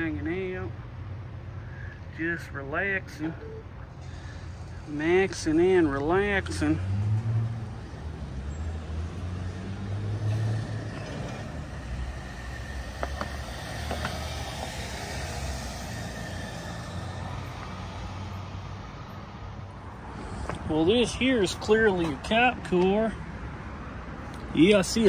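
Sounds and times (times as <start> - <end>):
car engine low hum: 0.0 - 24.6
tyres on pavement: 3.1 - 25.0.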